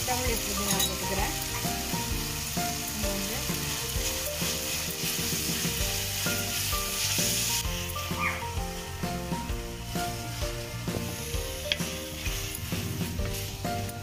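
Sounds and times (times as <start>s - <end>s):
masala sizzling in a pan: 0.0s - 14.0s.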